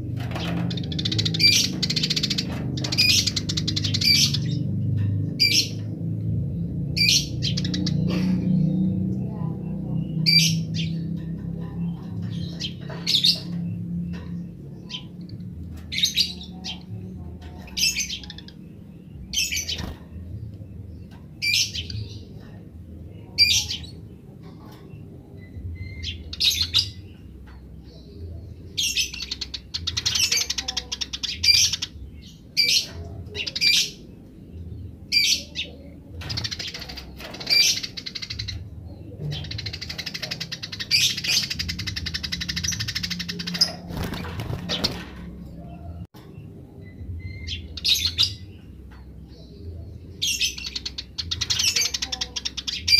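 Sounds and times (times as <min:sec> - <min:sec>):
sparrows chirping: 0:00.0 - 0:52.9.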